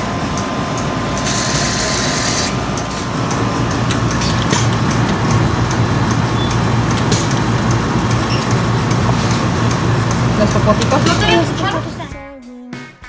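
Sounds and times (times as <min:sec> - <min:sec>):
low machine hum: 0:00.0 - 0:12.2.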